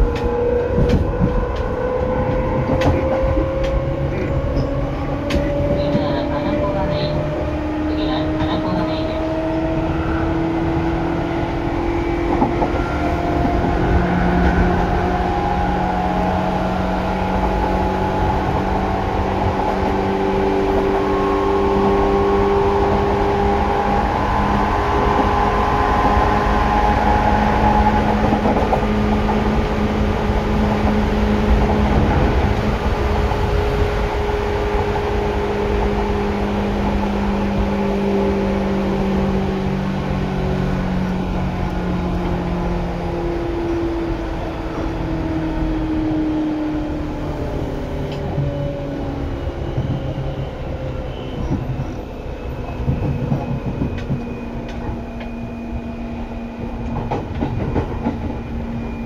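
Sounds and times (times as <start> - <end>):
wheels rumbling on track: 0.0 - 59.0.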